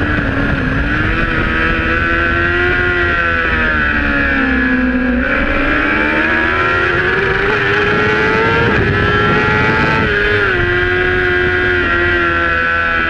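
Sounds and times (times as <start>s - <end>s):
racing motorcycle engine: 0.0s - 13.0s
wind noise: 0.0s - 13.0s.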